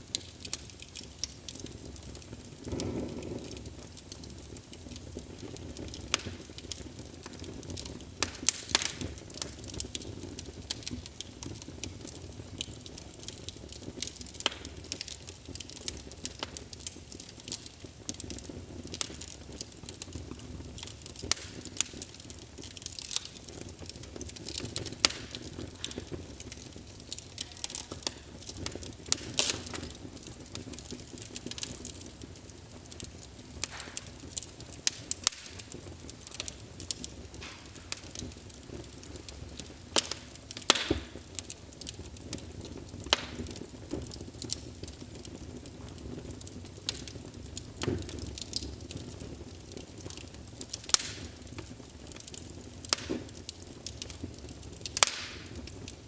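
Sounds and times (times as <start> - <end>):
fire crackling and popping: 0.0 - 56.0
low rush of flames: 0.0 - 56.0.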